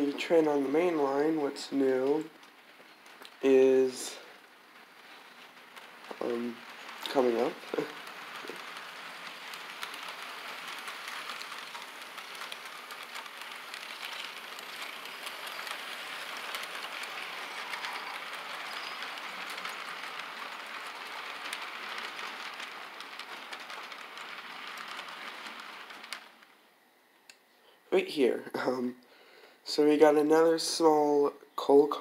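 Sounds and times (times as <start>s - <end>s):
rapid clicks on track: 0.0s - 26.6s
model train wheels on rails: 0.0s - 32.0s.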